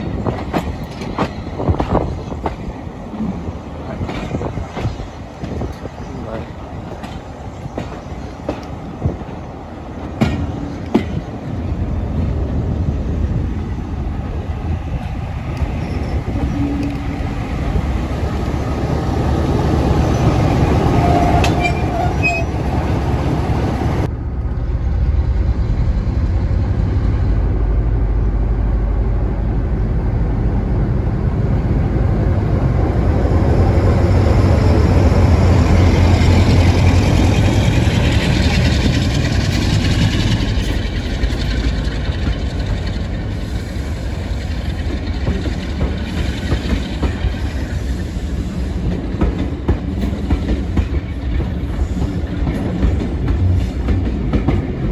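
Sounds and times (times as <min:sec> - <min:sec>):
diesel locomotive droning: 0:00.0 - 0:54.9
railway coach rumbling: 0:00.0 - 0:54.9
train coaches rolling by: 0:00.0 - 0:54.9.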